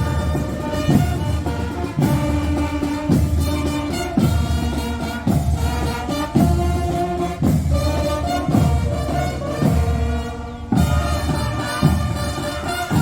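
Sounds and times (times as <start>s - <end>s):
brass horns playing: 0.0s - 13.0s
marching drum beat: 0.0s - 13.0s.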